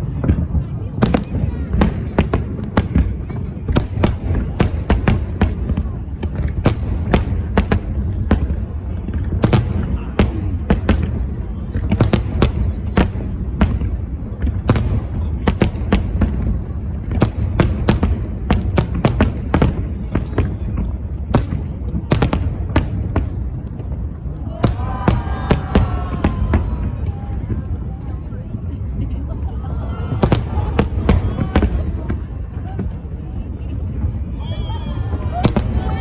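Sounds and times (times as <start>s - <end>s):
fireworks cracking: 0.0s - 34.3s.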